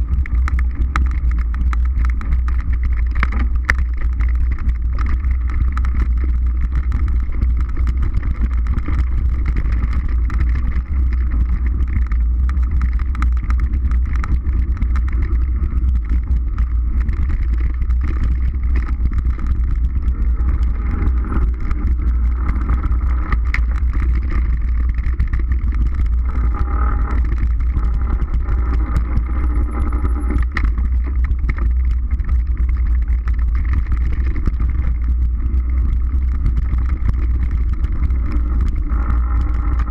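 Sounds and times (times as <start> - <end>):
bike clicks and knocks: 0.0 - 39.9
bike tyres rumbling on dirt: 0.0 - 39.9
wind buffeting microphone: 0.0 - 39.9.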